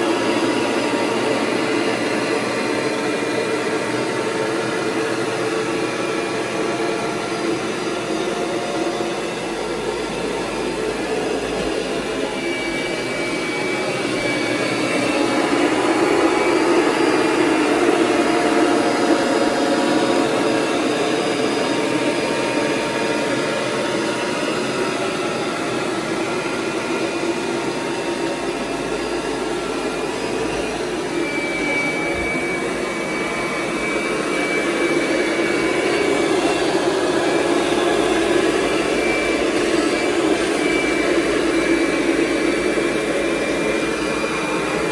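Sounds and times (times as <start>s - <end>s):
vacuum cleaner motor drone: 0.0s - 44.9s.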